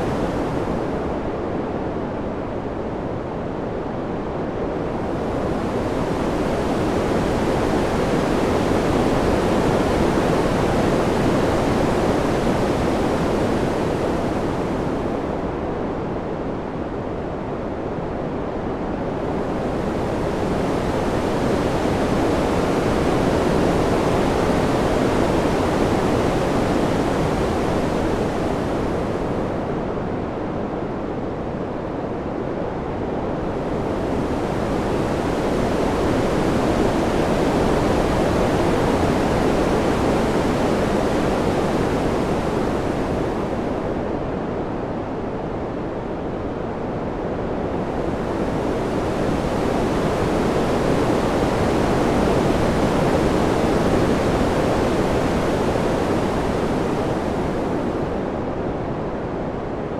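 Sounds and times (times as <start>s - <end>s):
rushing wind: 0.0s - 59.9s.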